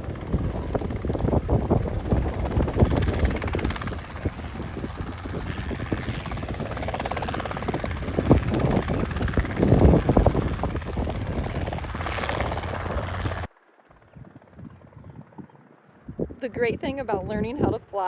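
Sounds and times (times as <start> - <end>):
low rumbles: 0.0 - 17.8
helicopter rotor chopping: 0.0 - 18.0.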